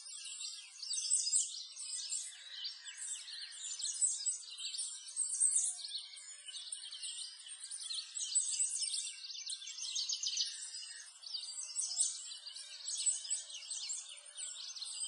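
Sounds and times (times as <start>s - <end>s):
chorus of small birds chirping: 0.0s - 15.0s.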